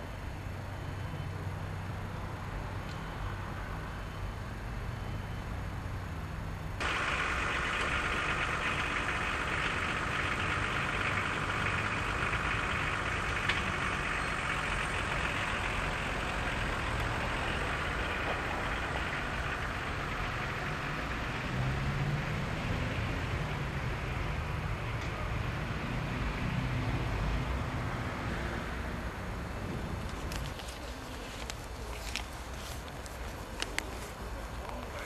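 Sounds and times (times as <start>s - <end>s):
diesel engine running with clatter: 6.8s - 35.0s.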